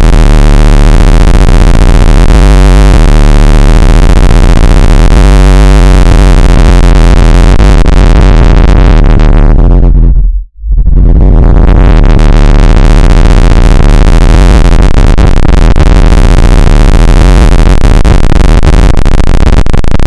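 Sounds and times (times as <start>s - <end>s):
harsh electronic hiss: 0.0s - 10.2s, 10.8s - 19.6s
buzzing bass drone: 0.0s - 20.0s.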